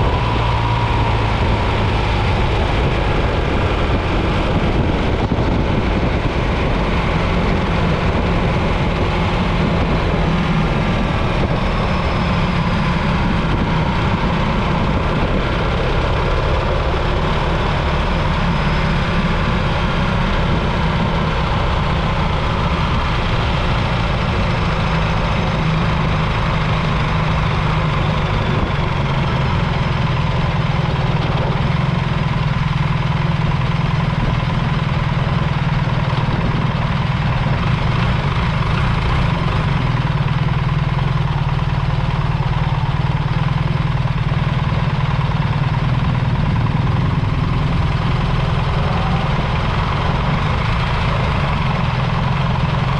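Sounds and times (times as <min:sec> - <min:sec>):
motorcycle engine running: 0:00.0 - 0:52.9
road and wind noise: 0:00.0 - 0:52.9.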